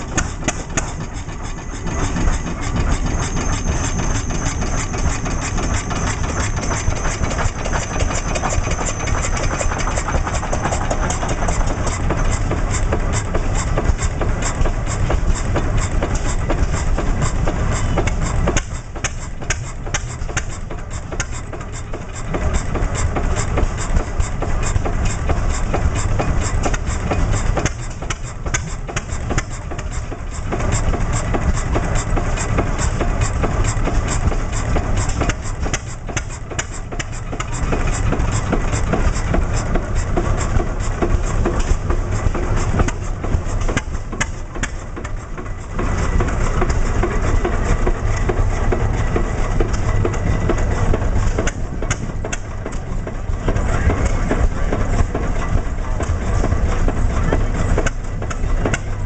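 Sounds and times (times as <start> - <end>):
oil engine knocking: 0.0 - 59.0.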